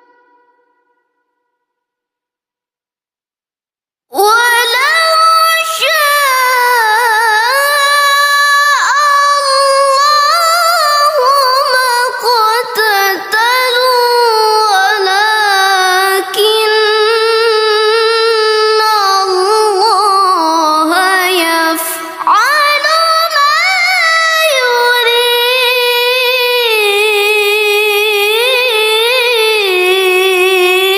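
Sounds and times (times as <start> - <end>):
person reciting melodically: 4.1 - 30.9.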